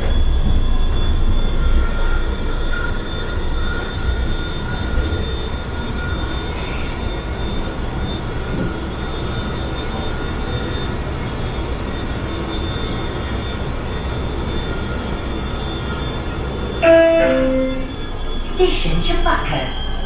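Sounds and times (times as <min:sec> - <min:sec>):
faint high whine: 0:00.0 - 0:20.0
train wheels rumbling on rail: 0:00.0 - 0:20.0.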